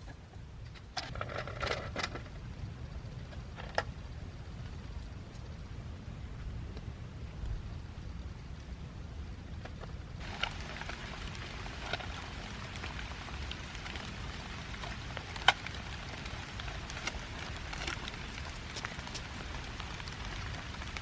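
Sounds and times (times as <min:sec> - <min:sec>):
low steady rumble: 0:00.0 - 0:21.0
rain pattering: 0:00.6 - 0:21.0.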